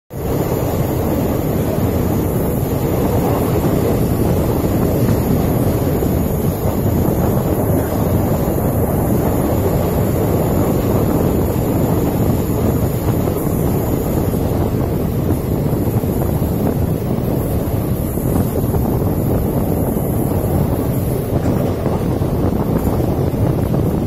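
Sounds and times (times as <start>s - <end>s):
train coaches rumbling: 0.1s - 24.0s
wind buffeting microphone: 0.1s - 24.0s.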